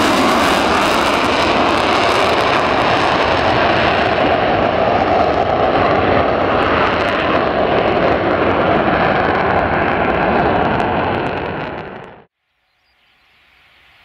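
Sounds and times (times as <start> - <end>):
jet engine roar: 0.0 - 12.3.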